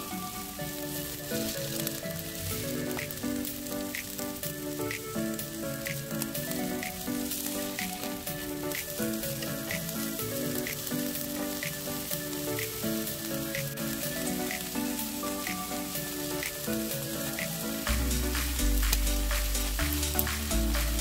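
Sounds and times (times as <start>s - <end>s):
background music: 0.0s - 21.0s
food sizzling in frying pan: 0.0s - 21.0s.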